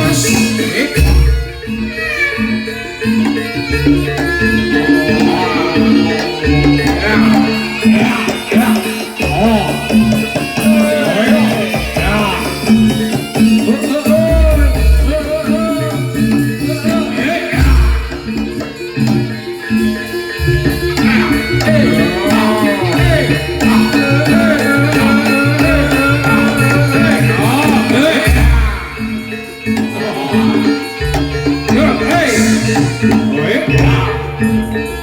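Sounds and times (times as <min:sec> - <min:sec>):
traditional percussion ensemble music: 0:00.0 - 0:35.0.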